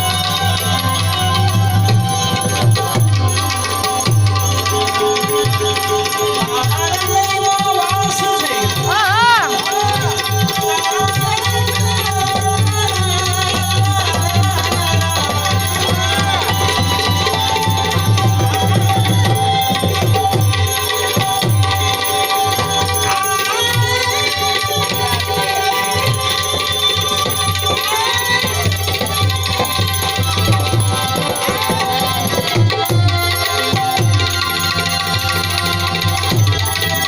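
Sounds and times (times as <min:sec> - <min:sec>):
tabla drum beat: 0:00.0 - 0:37.0.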